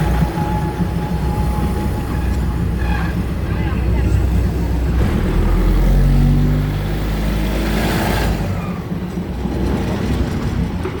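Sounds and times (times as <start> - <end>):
diesel engine droning: 0.0 - 9.2.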